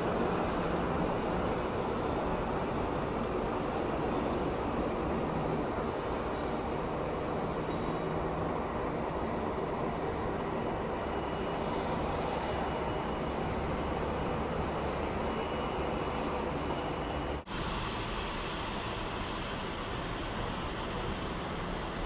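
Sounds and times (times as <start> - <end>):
steady jet engine noise: 0.0 - 22.0.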